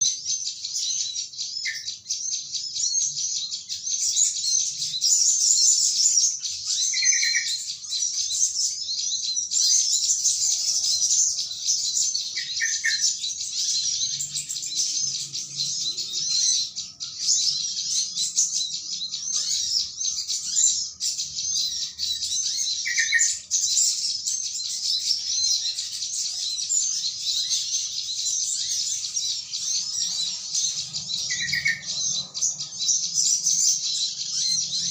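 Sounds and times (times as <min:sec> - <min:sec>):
flock of small birds chattering: 0:00.0 - 0:34.9.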